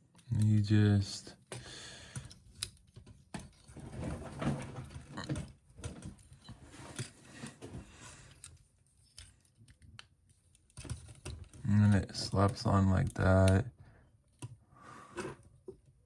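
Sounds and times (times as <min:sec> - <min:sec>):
plastic parts clicking and scraping: 0:00.0 - 0:14.6.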